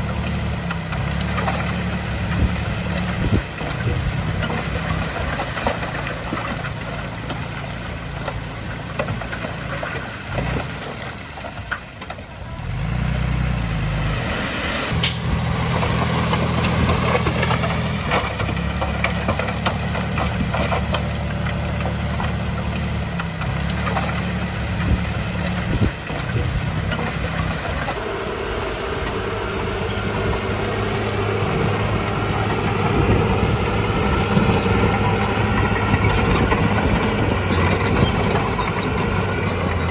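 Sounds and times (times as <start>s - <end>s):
heavy diesel machinery engines: 0.0s - 39.9s.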